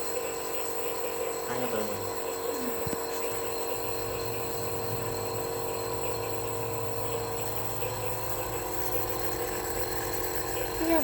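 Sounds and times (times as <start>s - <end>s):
nebulizer motor hum: 0.0s - 11.0s.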